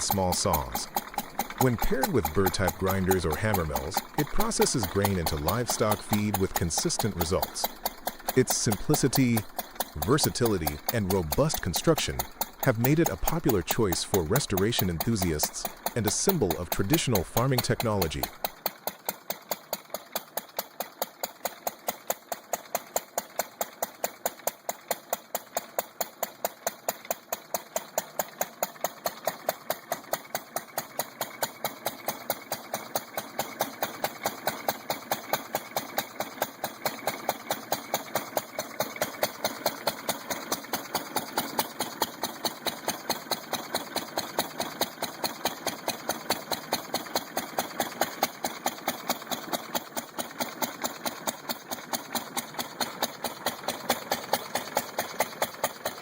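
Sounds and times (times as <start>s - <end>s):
stationary engine popping: 0.0s - 56.0s.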